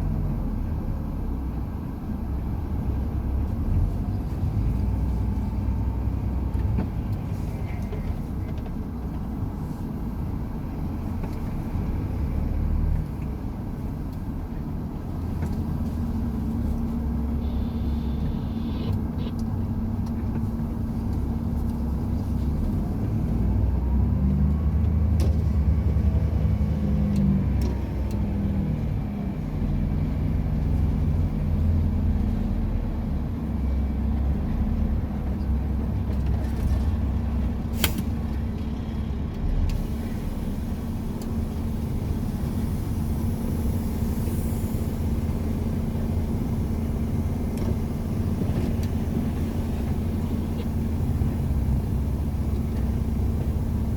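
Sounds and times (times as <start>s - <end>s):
truck diesel engine running: 0.0s - 27.1s, 27.8s - 53.9s
road noise: 0.0s - 53.9s.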